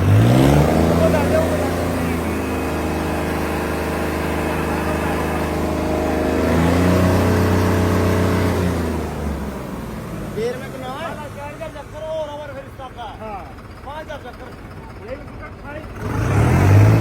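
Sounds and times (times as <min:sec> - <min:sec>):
tractor diesel engine revving: 0:00.0 - 0:17.0.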